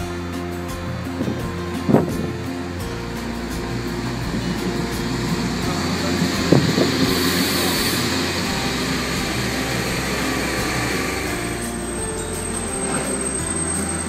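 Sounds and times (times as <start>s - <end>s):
train wheels rushing on rail: 1.0s - 14.0s.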